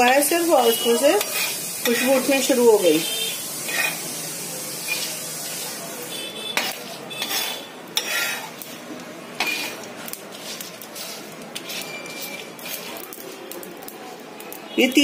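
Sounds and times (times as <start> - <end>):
metal spatula scraping pan: 0.0 - 4.2, 4.8 - 8.8, 9.4 - 13.3
spices roasting hiss: 0.0 - 15.0.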